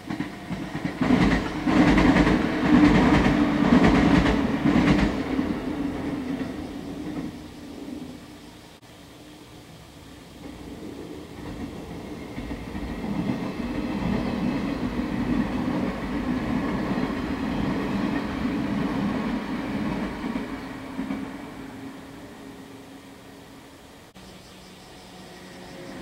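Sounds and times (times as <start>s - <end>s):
electric train rumbling past: 0.0s - 26.0s.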